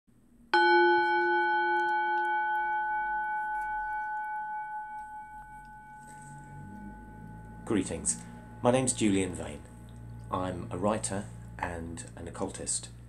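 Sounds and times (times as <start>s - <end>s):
bell ringing: 0.6s - 12.0s.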